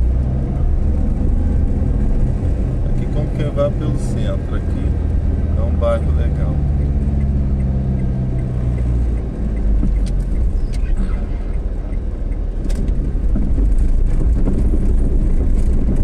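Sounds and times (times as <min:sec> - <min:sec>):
engine hum inside car: 0:00.0 - 0:16.0
tyre and road rumble: 0:00.0 - 0:16.0.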